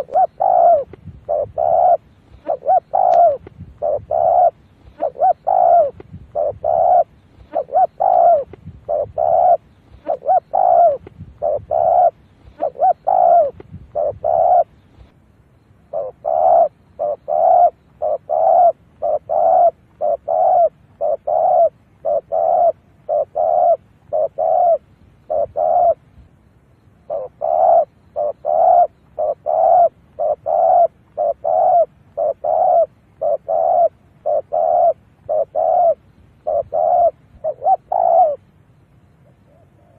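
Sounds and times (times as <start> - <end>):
dove cooing: 0.0 - 15.1, 15.8 - 39.9.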